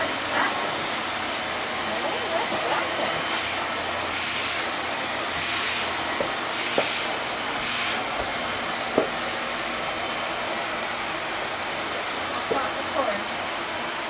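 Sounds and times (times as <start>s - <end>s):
vacuum cleaner whining: 0.0s - 14.0s.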